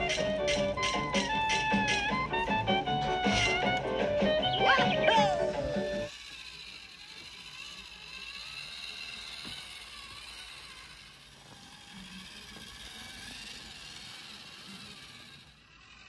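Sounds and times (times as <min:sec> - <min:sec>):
toy motor and gearbox whirring: 0:00.0 - 0:16.0.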